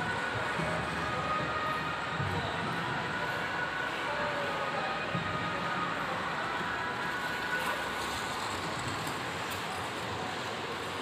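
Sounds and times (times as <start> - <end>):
busy skating rink noise: 0.0 - 11.0.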